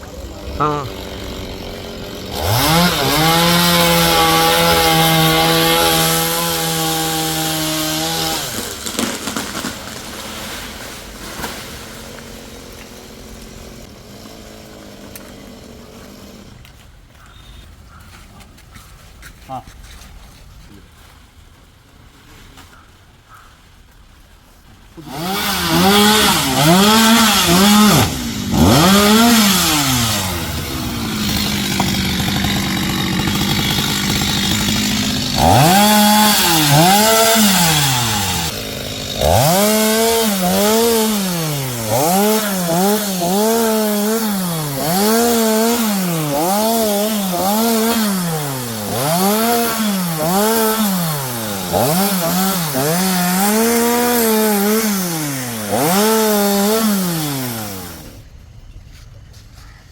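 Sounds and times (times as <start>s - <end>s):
chainsaw cutting wood: 0.0s - 16.8s, 25.0s - 58.2s.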